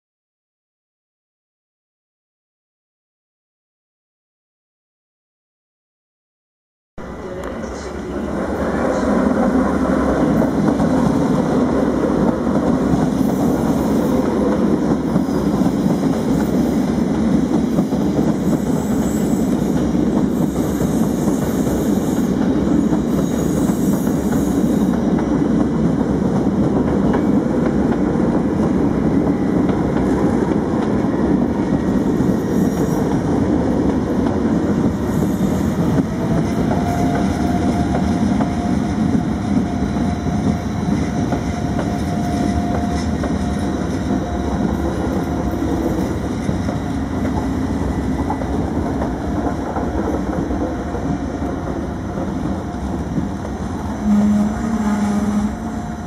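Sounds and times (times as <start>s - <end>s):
train wheels rumbling over rails: 7.0s - 56.0s.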